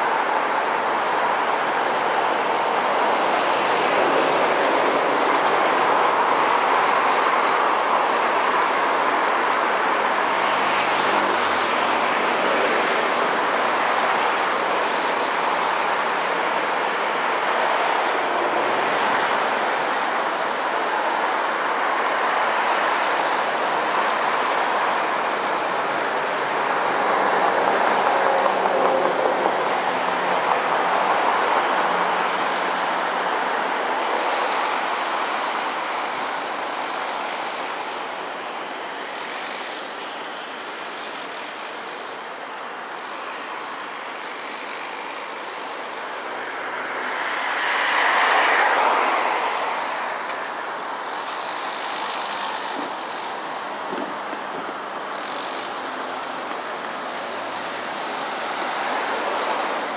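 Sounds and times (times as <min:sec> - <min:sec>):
road traffic hiss: 0:00.0 - 0:59.9.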